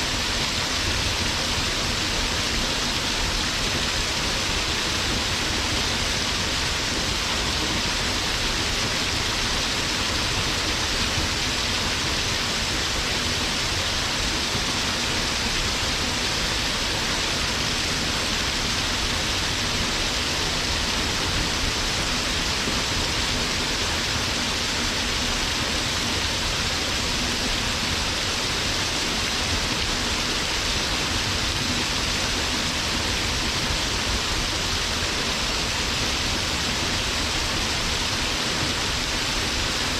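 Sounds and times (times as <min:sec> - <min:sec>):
waterfall splashing on rock: 0:00.1 - 0:39.9.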